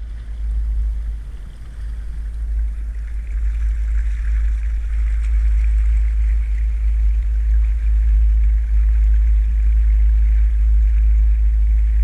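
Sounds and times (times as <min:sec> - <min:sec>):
water splashing against boat hull: 0:00.0 - 0:12.0
wind buffeting microphone: 0:00.0 - 0:12.0.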